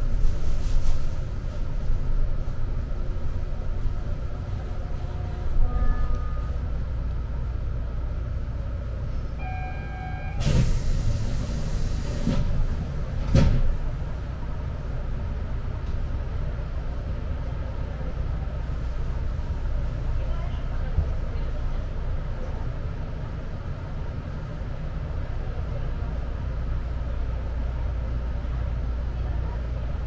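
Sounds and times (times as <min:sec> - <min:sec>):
train running low rumble: 0:00.0 - 0:30.0.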